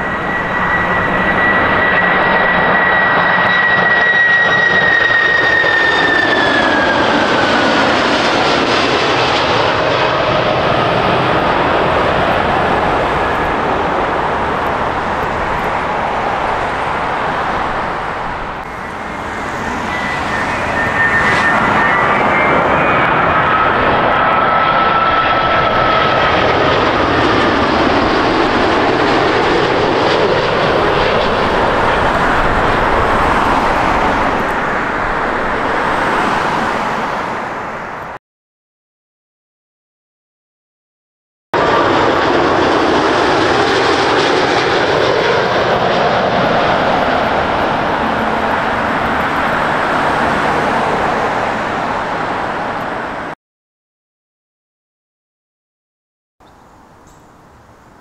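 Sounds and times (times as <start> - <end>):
jet airliners passing overhead: 0.0 - 38.2, 41.6 - 53.4.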